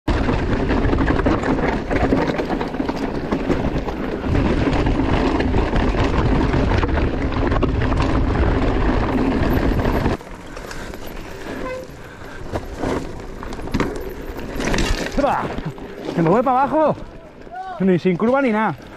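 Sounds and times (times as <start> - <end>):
tyres rumbling on ground: 0.1 - 18.9.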